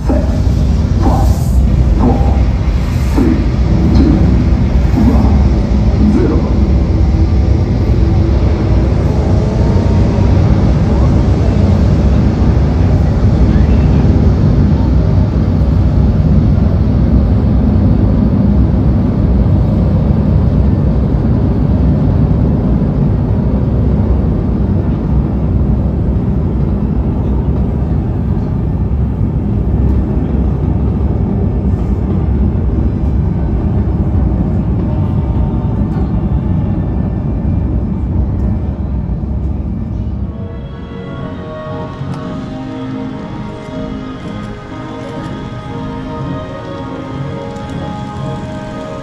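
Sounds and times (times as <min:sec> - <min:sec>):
loud low rumble: 0:00.0 - 0:49.0.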